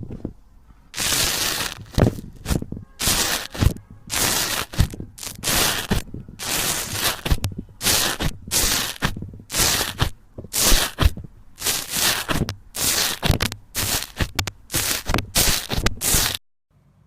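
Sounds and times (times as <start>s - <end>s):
slime squishing by hand: 1.0s - 16.4s.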